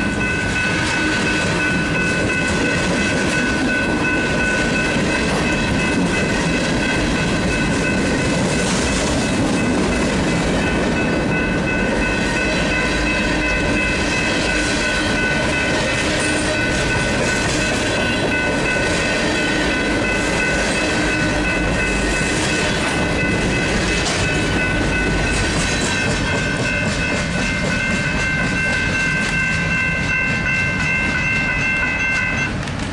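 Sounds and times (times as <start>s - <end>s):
crossing bells ringing: 0.0s - 32.7s
train wheels rumbling and clicking: 0.0s - 32.9s.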